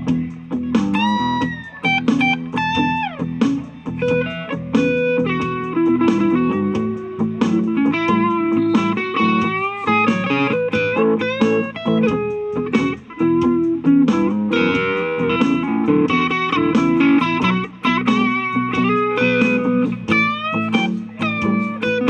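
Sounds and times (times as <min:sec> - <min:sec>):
electric guitar blues lead: 0:00.0 - 0:22.0
guitar string bends: 0:00.0 - 0:22.0.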